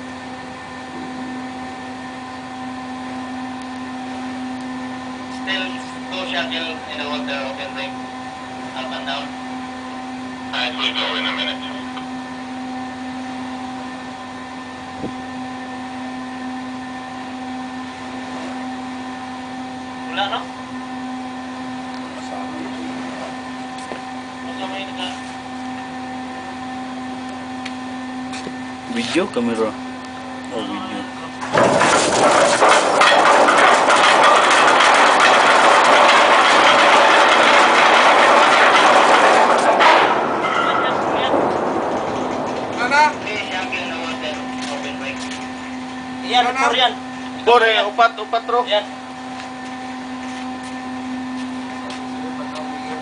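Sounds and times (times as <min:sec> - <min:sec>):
ship deck machinery humming: 0:00.0 - 0:53.0.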